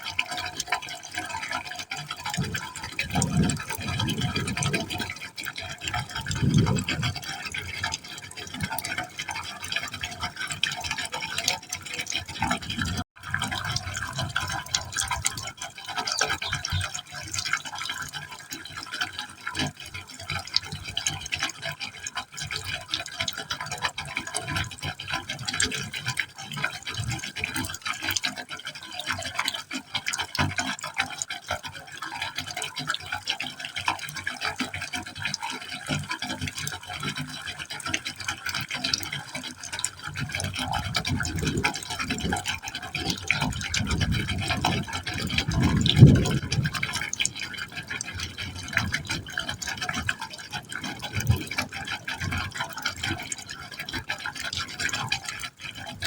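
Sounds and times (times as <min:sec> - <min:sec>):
water splashing into a pipe: 0:00.0 - 0:56.0.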